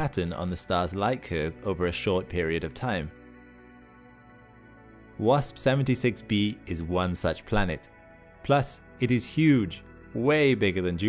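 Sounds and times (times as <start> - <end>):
ambient electronic music: 0.0 - 11.0.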